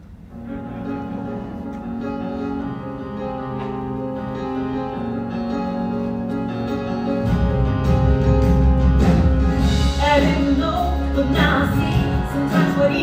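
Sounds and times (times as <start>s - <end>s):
piano-led band music: 0.0s - 13.0s.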